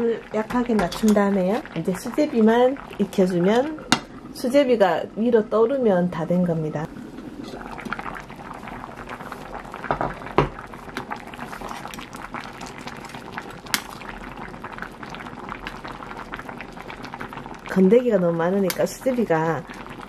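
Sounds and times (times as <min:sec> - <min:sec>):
soup bubbling at a boil: 0:00.0 - 0:20.0.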